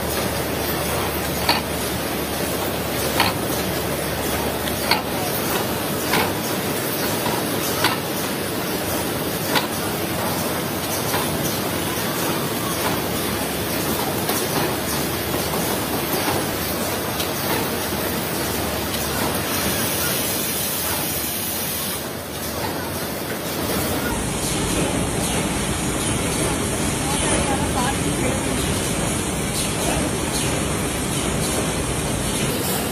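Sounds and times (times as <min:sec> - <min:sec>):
packing machinery running: 0:00.0 - 0:32.9.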